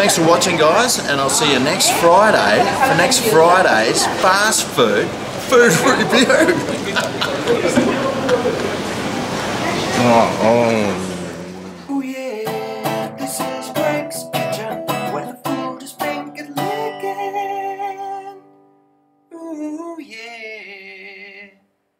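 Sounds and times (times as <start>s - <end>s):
acoustic guitar strumming chords: 0.0s - 21.5s.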